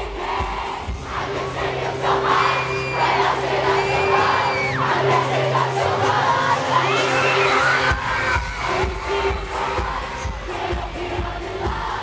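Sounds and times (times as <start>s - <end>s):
crowd screaming and singing along: 0.0s - 12.0s
live pop band playing chords: 0.0s - 12.0s.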